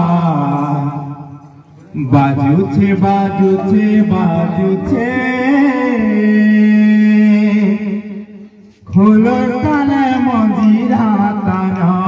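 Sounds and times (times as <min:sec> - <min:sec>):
devotional singing: 0:00.0 - 0:12.0.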